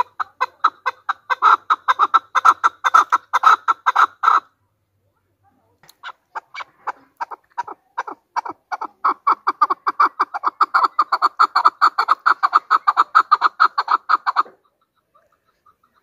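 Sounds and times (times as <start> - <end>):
partridge chuck calls: 0.0 - 4.5, 5.8 - 16.0.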